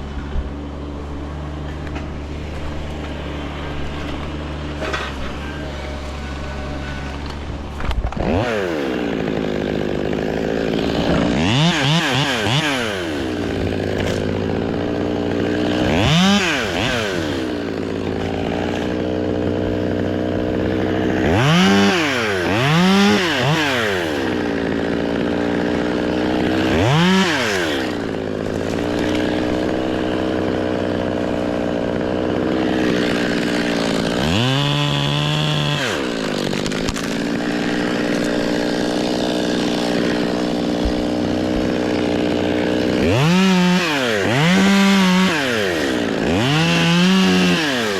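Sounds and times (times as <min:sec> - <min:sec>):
chainsaw idling and revving: 0:00.0 - 0:47.9.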